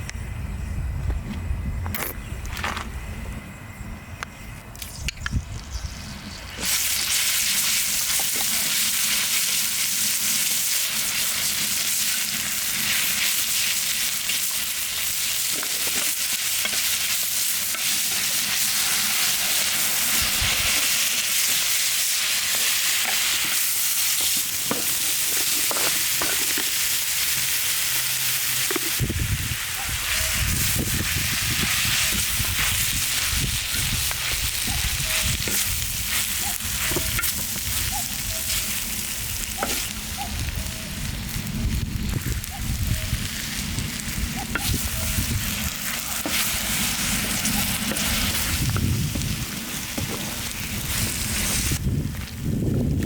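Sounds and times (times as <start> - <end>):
food sizzling in a pan: 6.0 - 51.8.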